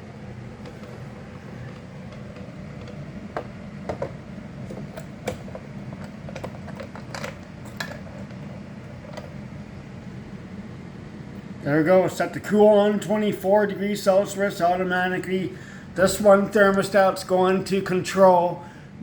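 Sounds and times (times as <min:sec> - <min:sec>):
air conditioners humming: 0:00.0 - 0:19.0.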